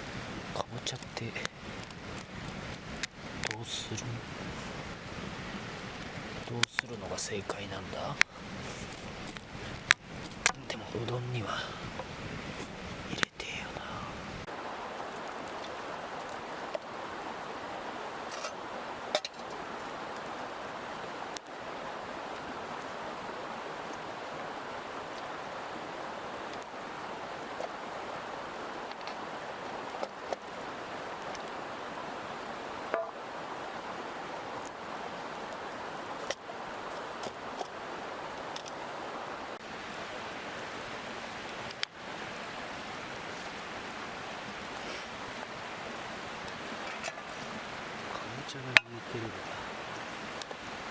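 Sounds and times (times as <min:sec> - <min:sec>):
mountain stream flowing: 0:00.0 - 0:50.9.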